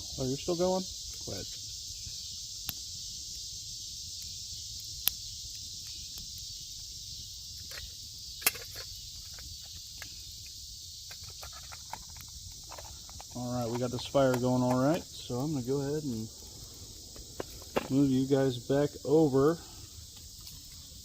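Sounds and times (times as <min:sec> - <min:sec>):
campfire crackling: 0:00.0 - 0:21.0
fire popping: 0:00.0 - 0:21.0
high insect chorus: 0:00.0 - 0:21.0.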